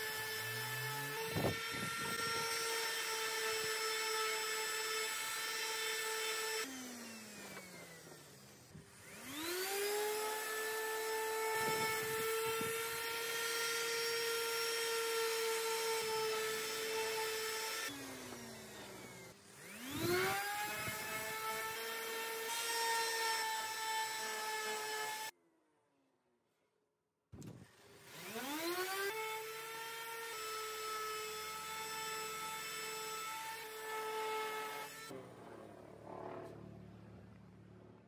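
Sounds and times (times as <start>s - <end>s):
orbital sander whining: 0.0s - 25.3s, 27.7s - 38.0s.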